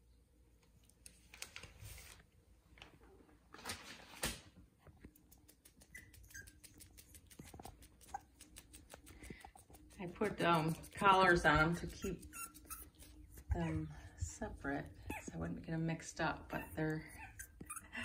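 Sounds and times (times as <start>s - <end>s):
puppies pattering and rustling on rug: 0.6s - 17.0s.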